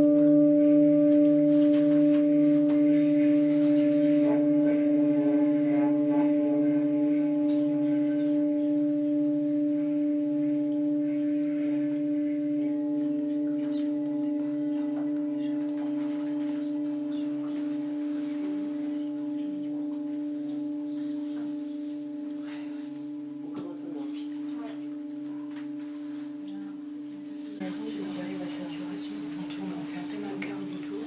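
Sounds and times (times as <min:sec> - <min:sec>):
singing bowl ringing: 0:00.0 - 0:31.0.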